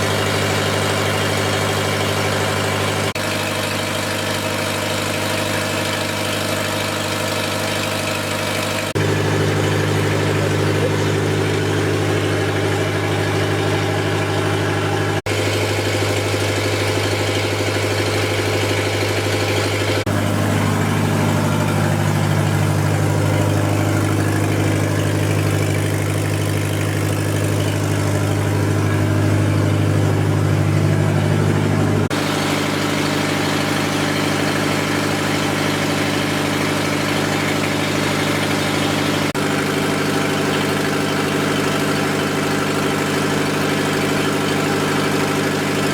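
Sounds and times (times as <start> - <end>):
diesel generator engine running: 0.0 - 45.9.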